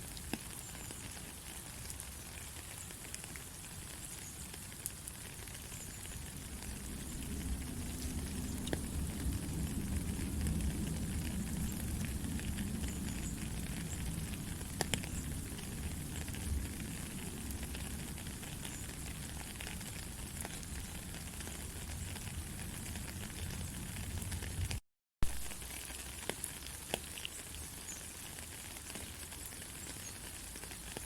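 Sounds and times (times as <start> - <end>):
rain drop clicks: 0.0 - 31.0
steady rainfall: 0.0 - 31.0.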